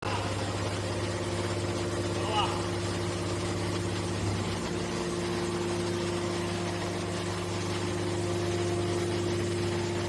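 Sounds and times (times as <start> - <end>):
hydraulic machine hum: 0.0 - 10.0.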